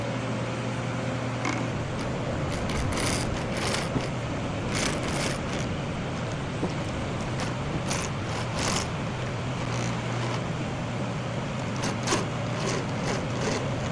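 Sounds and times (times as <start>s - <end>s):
machine tool humming: 1.0s - 13.9s
hissing scraping bursts: 1.5s - 13.9s.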